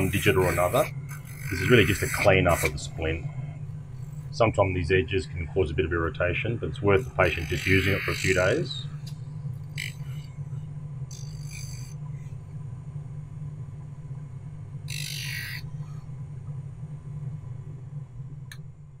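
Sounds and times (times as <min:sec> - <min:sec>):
drum sander motor humming: 0:00.0 - 0:15.5.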